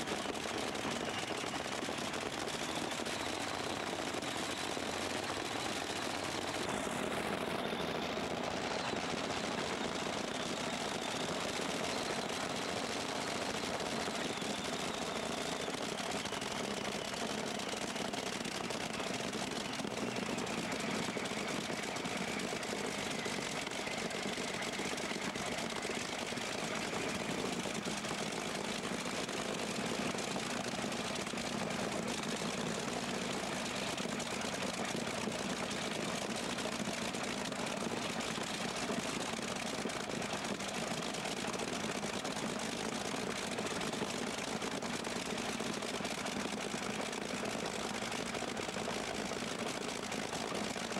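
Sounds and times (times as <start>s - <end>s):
tractor engine idling: 0.0s - 50.9s.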